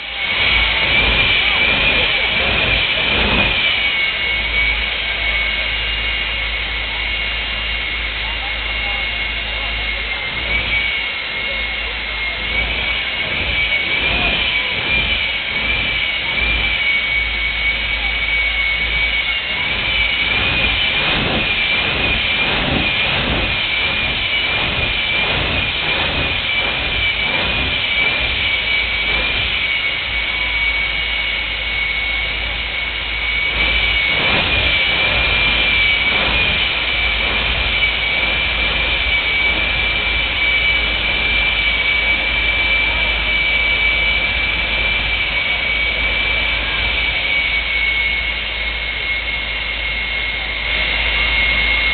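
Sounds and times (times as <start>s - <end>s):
jet engine whine and roar: 0.0s - 51.9s.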